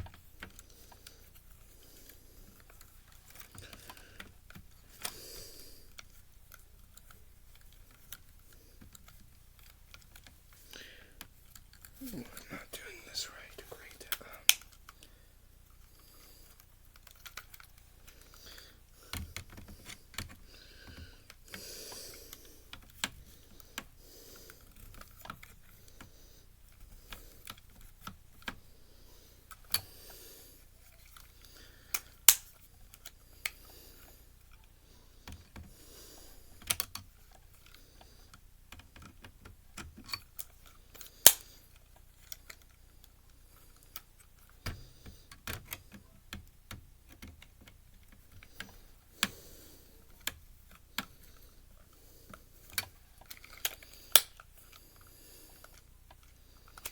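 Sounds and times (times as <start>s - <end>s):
plastic and metal parts clicking: 0.0s - 5.2s, 5.9s - 12.4s, 15.7s - 28.7s, 29.4s - 35.7s, 36.5s - 49.4s, 50.0s - 56.9s.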